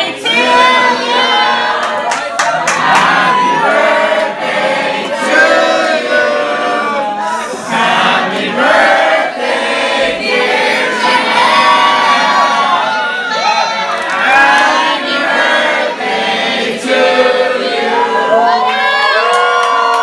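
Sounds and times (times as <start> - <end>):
crowd singing loudly: 0.0 - 19.2.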